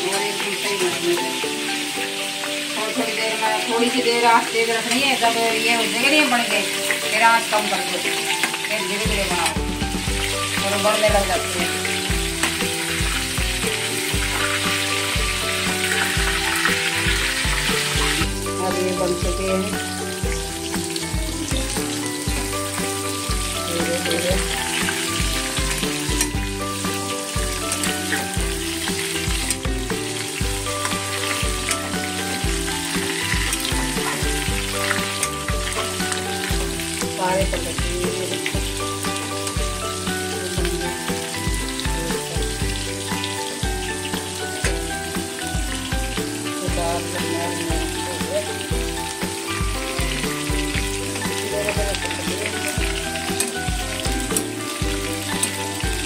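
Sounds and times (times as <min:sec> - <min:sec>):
vegetables sizzling in oil: 0:00.0 - 0:56.0
background music with a beat: 0:08.3 - 0:56.0.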